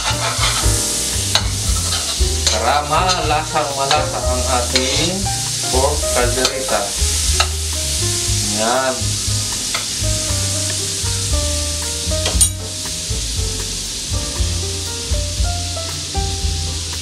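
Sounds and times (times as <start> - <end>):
fat sizzling in a wok: 0.0 - 17.0.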